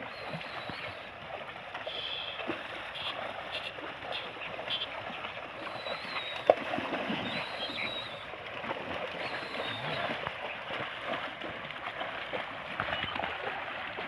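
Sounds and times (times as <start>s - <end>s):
cattle sloshing through water: 0.0s - 14.0s.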